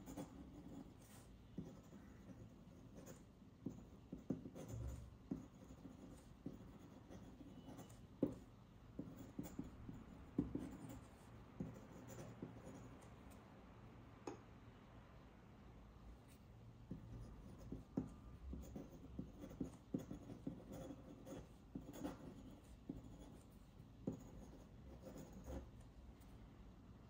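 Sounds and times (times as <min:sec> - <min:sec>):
pen nib scratching on paper: 0:00.0 - 0:13.4, 0:16.9 - 0:25.8.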